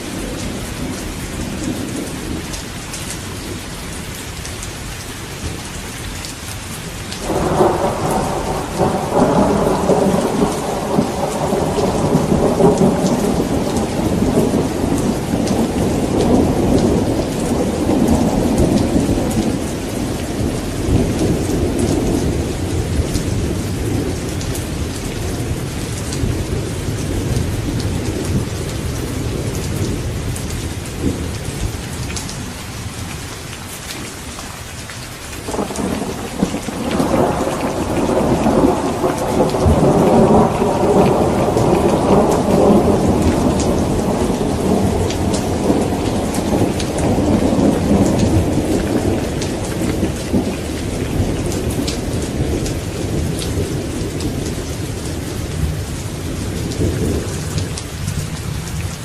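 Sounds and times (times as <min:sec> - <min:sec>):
steady rain: 0:00.0 - 0:59.0
thunderclap with long rumble: 0:07.2 - 0:32.4, 0:35.5 - 0:58.9.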